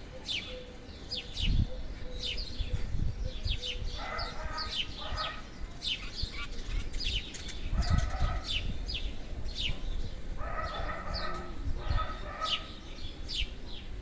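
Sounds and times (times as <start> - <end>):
longer lower bird calls: 0.0 - 14.0.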